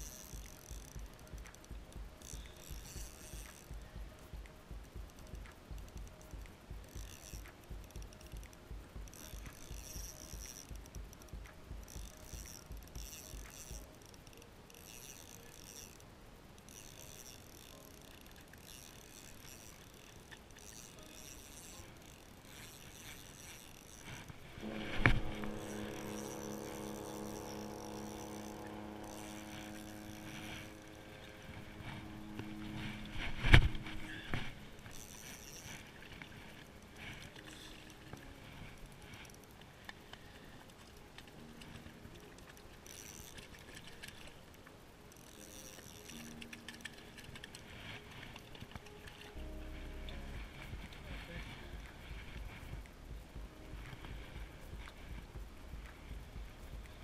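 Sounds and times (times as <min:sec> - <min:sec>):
fishing reel whirring: 0:00.0 - 0:57.0
steady multi-tone hum: 0:00.0 - 0:57.0.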